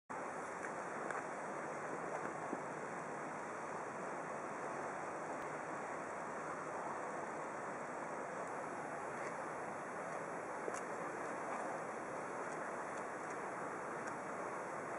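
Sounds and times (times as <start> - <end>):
ambient background noise: 0.1 - 14.9.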